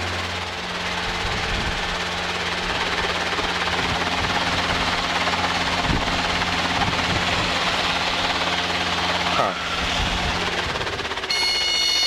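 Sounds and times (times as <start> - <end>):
helicopter engine and rotors: 0.0 - 12.0.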